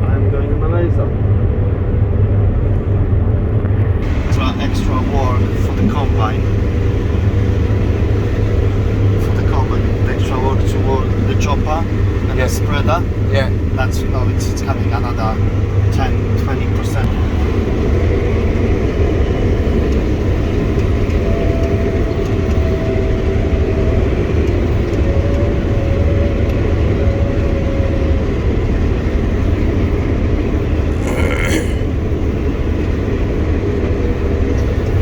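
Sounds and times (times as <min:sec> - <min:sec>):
combine harvester drone: 0:00.0 - 0:35.0.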